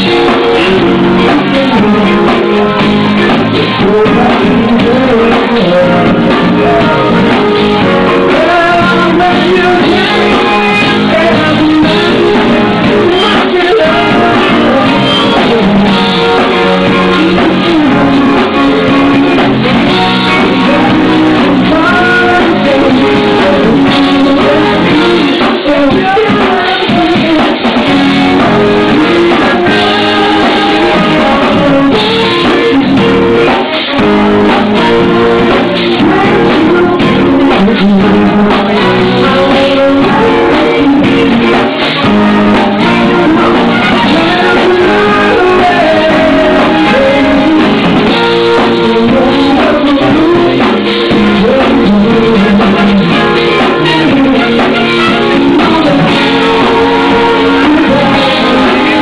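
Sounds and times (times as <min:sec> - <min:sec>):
person singing: 0:00.0 - 0:59.0
rock band playing: 0:00.0 - 0:59.0.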